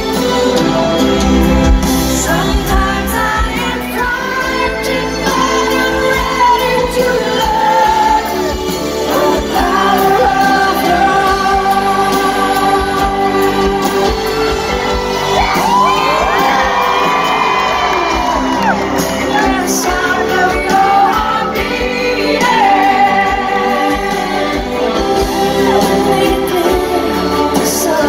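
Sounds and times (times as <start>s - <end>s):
live band playing: 0.0s - 28.0s
woman singing power ballad: 2.0s - 28.0s.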